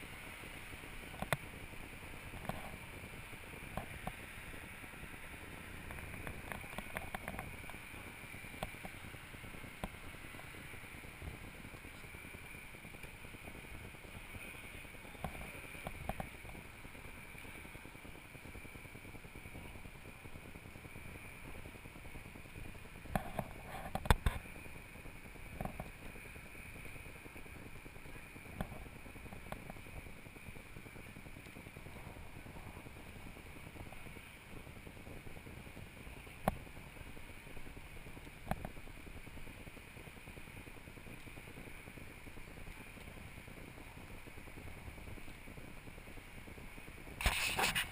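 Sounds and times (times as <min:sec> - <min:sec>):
muffled outdoor background noise: 0:00.0 - 0:47.9.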